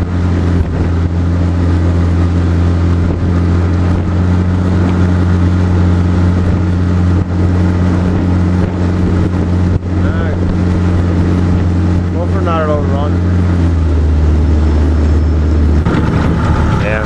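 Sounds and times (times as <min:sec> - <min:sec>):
hiss of water and wind: 0:00.0 - 0:17.0
motorboat engine drone: 0:00.0 - 0:17.0.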